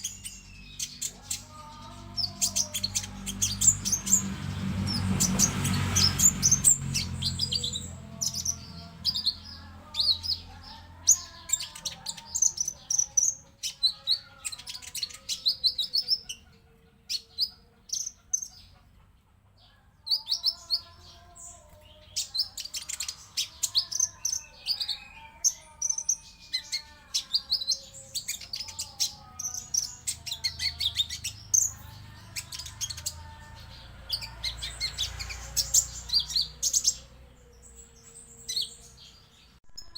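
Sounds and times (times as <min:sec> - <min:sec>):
bird high rapid chirps: 0:00.0 - 0:18.8, 0:20.0 - 0:39.9.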